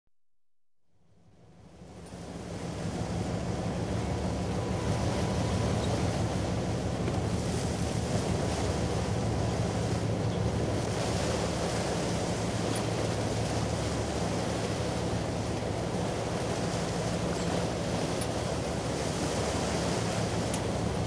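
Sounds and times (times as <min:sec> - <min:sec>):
distant ship engines droning: 0:01.1 - 0:21.0.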